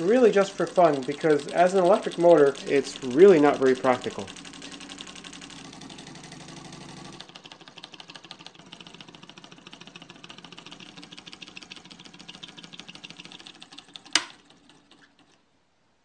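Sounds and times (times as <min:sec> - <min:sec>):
solenoid engine clattering: 0:00.0 - 0:15.4.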